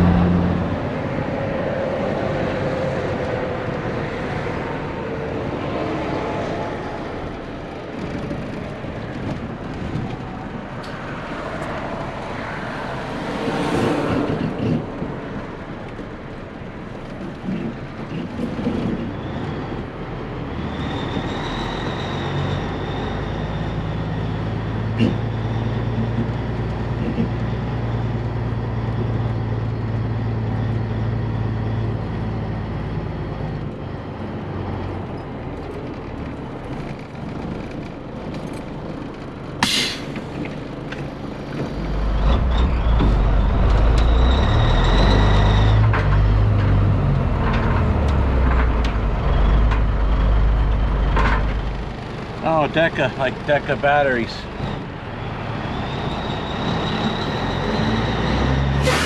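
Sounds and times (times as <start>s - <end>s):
truck diesel engine driving: 0.0s - 59.0s.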